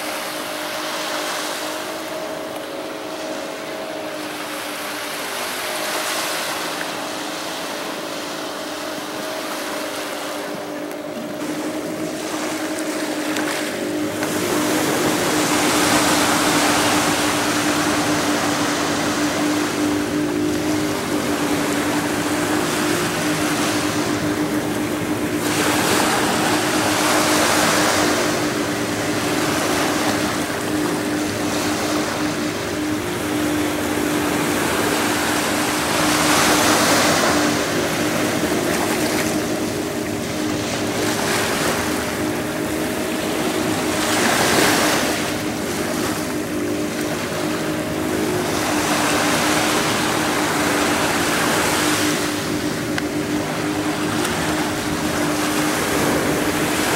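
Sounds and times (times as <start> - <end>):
steady engine hum: 0.0 - 56.9
surf washing ashore: 0.0 - 56.9.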